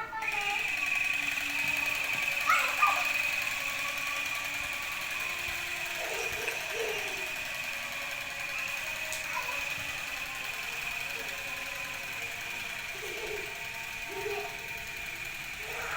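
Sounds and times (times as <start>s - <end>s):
small electric motor whining: 0.0s - 15.9s.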